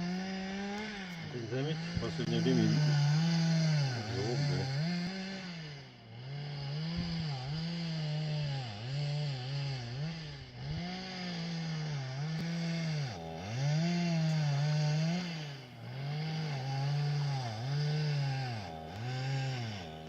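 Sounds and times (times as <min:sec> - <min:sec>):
small engine buzzing drone: 0:00.0 - 0:20.0.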